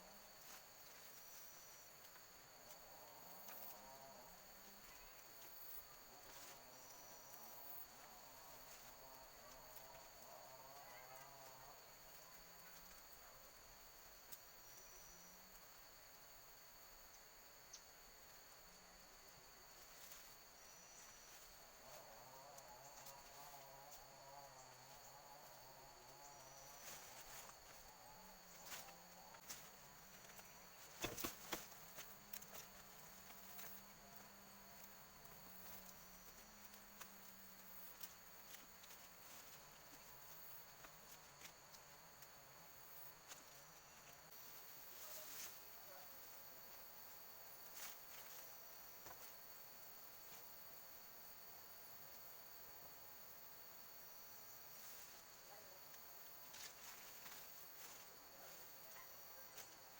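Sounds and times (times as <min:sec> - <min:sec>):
forest insects droning: 0:00.0 - 0:59.9.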